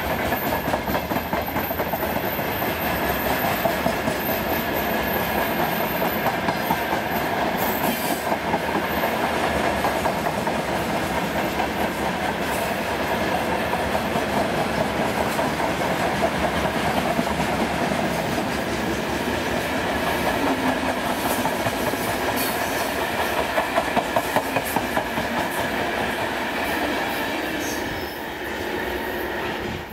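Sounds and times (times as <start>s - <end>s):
wheels clacking over rail joints: 0.0s - 26.5s
freight train rolling rumble: 0.0s - 29.9s.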